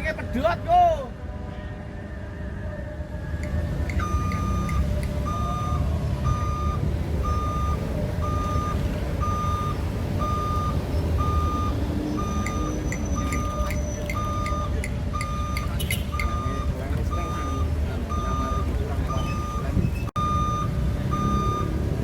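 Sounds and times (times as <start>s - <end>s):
diesel engine running: 3.4s - 22.0s
excavator warning alarm beeping: 3.4s - 22.0s.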